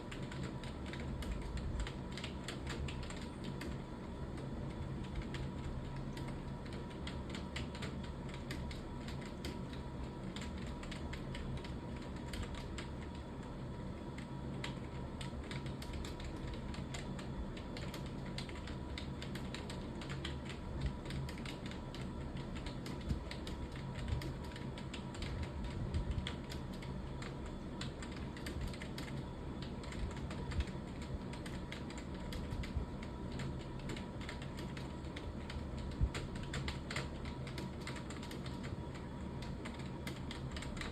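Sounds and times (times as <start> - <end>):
faint steady hum: 0.0 - 40.9
fast keyboard typing: 0.0 - 40.9.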